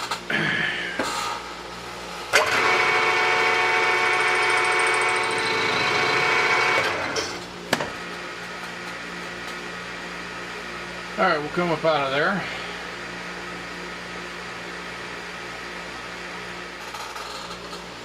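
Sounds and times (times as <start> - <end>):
machine running hum: 0.0 - 18.0
machining whine: 2.2 - 18.0.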